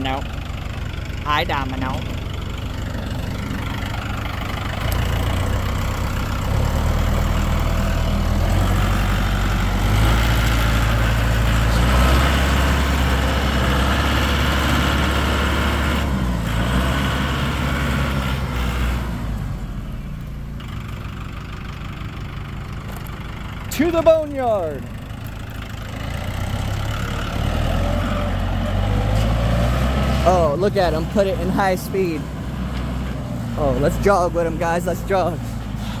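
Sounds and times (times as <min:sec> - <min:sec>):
tractor engine revving: 0:00.0 - 0:36.0.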